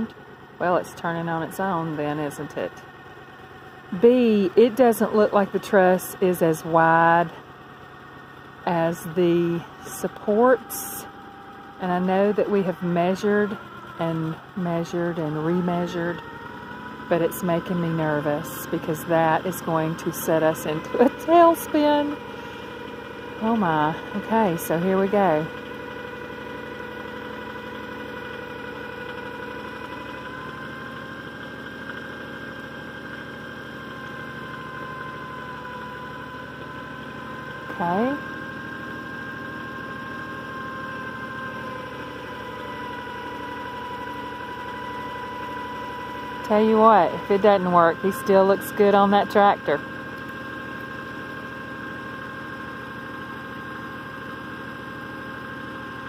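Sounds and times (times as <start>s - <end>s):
tractor engine running: 0.0s - 56.0s
steady high whine: 8.1s - 56.0s.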